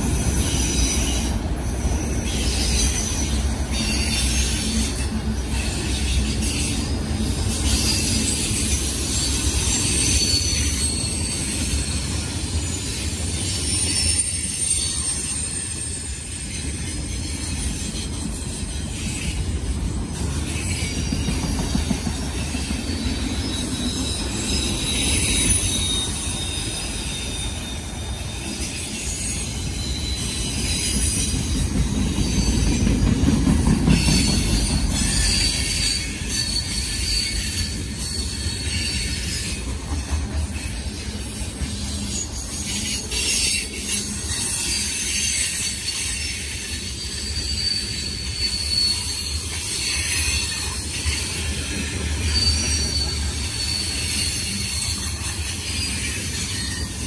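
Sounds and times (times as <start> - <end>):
high-pitched wheel squeal: 0.0 - 57.0
train wheels rumbling on rail: 0.0 - 57.0.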